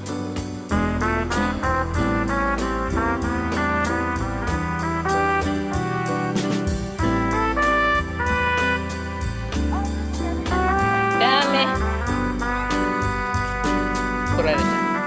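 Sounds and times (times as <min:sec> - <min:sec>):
upbeat music with brass lead: 0:00.0 - 0:15.0.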